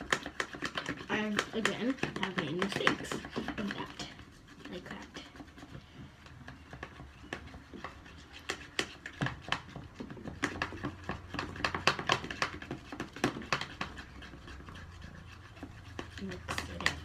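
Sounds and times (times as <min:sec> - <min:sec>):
slime being stirred: 0:00.0 - 0:17.0.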